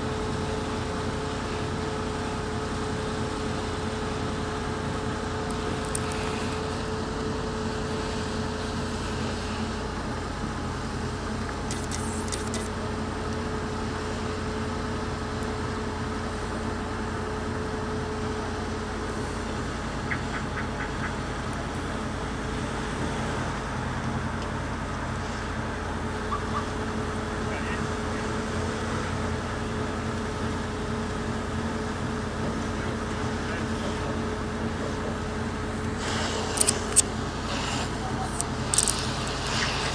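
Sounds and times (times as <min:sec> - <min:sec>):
fire engine engine droning: 0:00.0 - 0:39.9.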